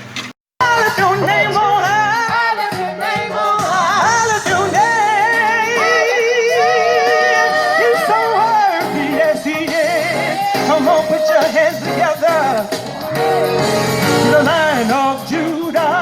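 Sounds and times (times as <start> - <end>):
person singing with vibrato: 0.6 - 16.0.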